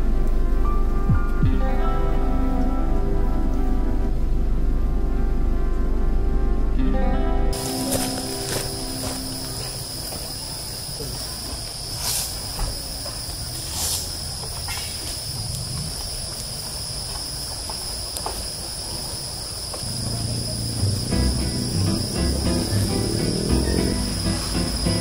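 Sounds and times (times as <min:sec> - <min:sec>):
insects droning: 0:00.1 - 0:25.0.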